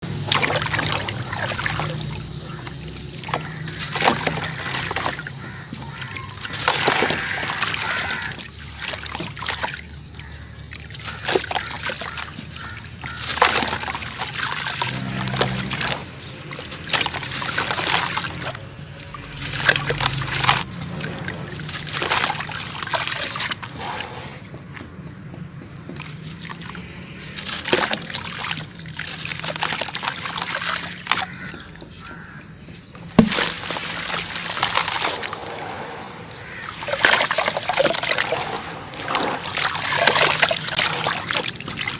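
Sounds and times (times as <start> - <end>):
wet crackling and sloshing: 0.0 - 24.9, 25.5 - 41.9.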